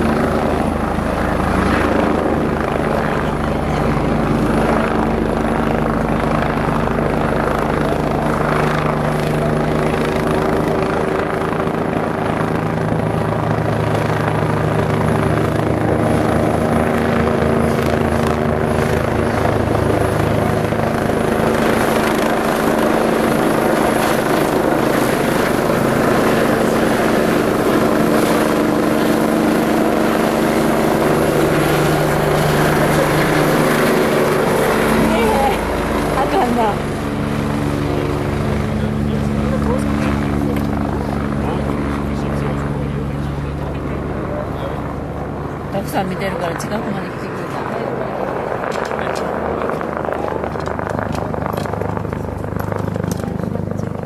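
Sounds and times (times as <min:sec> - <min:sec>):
engine drone: 0:00.0 - 0:54.0
helicopter rotor beat: 0:00.0 - 0:54.0.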